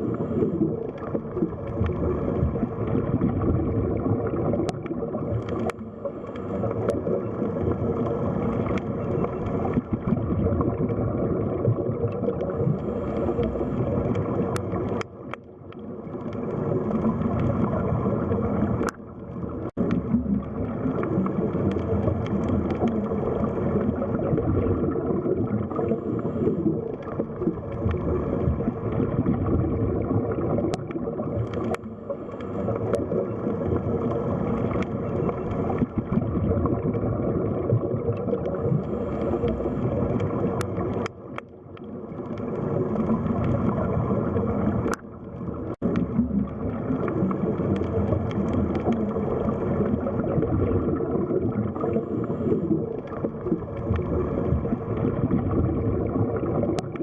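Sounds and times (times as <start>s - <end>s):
underwater rush and gurgle: 0.0s - 57.0s.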